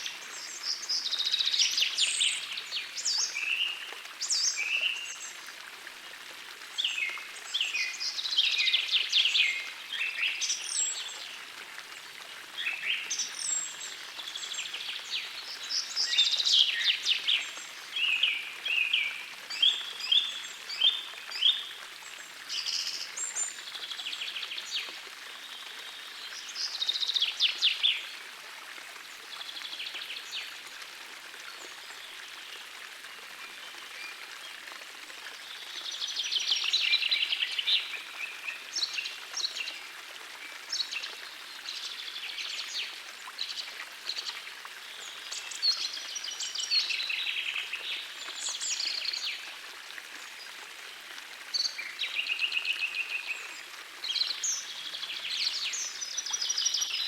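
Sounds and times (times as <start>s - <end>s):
stream running water: 0.0s - 57.0s.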